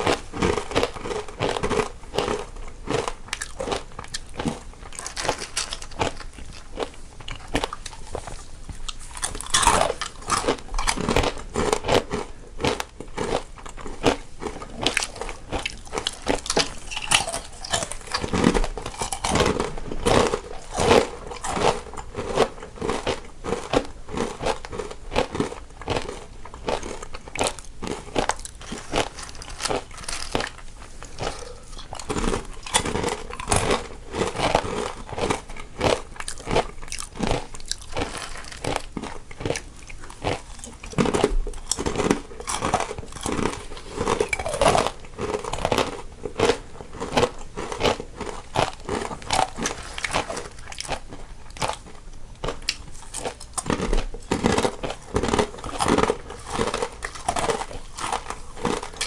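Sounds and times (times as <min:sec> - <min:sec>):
people crunching crisp snacks: 0:00.0 - 0:59.0.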